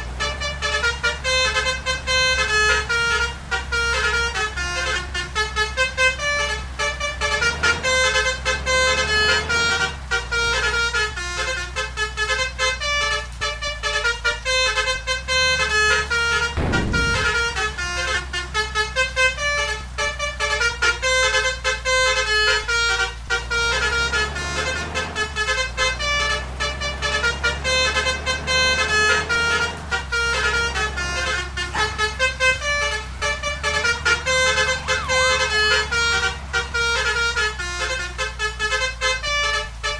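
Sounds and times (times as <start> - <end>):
musical air horn melody: 0.2 - 39.9.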